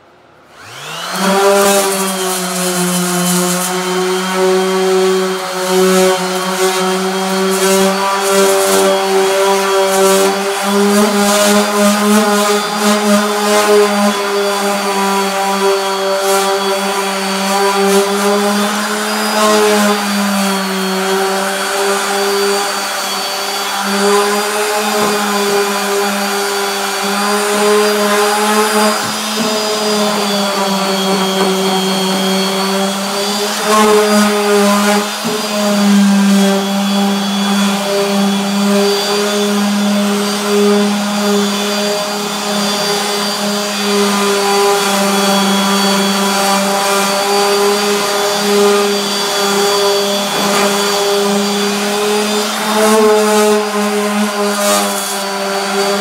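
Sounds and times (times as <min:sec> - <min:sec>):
sander motor hum: 0:00.0 - 0:56.0.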